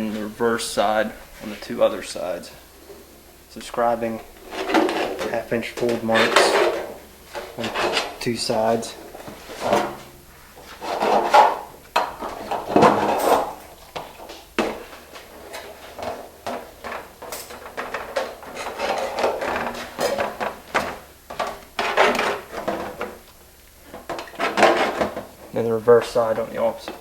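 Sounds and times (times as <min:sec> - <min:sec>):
sheet copper scraping and rubbing: 0:00.0 - 0:27.0.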